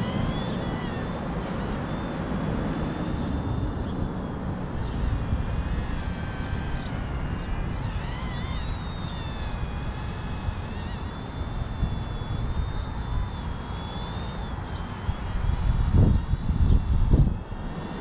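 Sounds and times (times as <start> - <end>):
toy helicopter motor whining: 0.0 - 18.0
wind rumble on microphone: 0.0 - 18.0.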